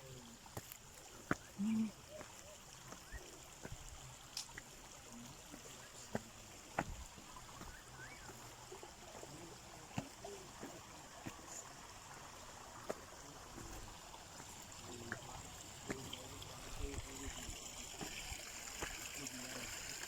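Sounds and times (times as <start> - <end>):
creek trickling over rocks: 0.0 - 20.0.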